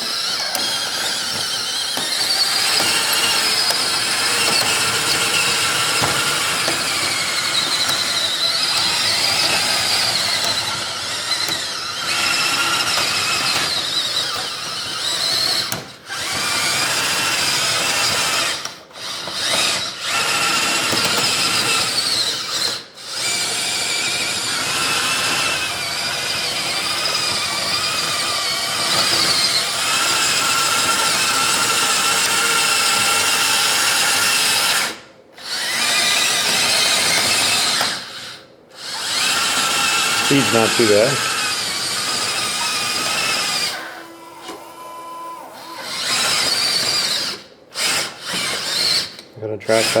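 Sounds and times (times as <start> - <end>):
electric motor whine: 0.0 - 50.0.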